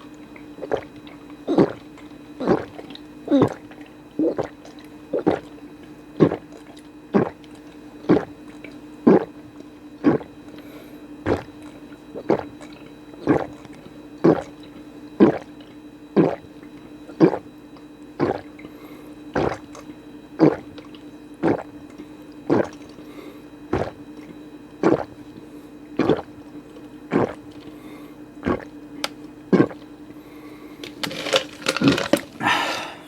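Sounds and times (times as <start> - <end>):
drink gulps being swallowed: 0.0 - 28.8, 29.4 - 30.2, 30.8 - 33.0.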